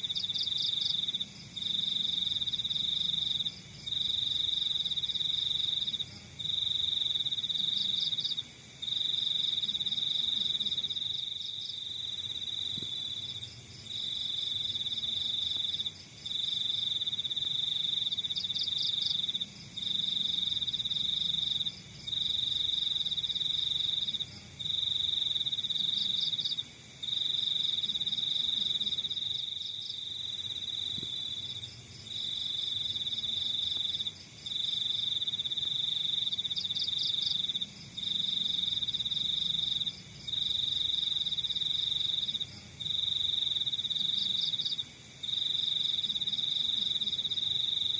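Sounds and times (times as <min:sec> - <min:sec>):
cricket trilling: 0:00.0 - 0:47.9.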